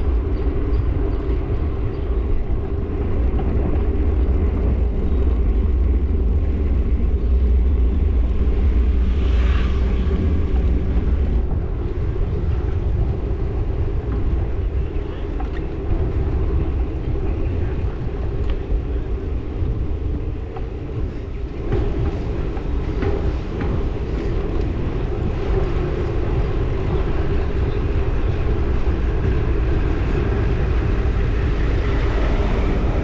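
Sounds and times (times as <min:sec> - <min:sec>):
road rumble: 0:00.0 - 0:33.0
wind on microphone: 0:00.0 - 0:33.0.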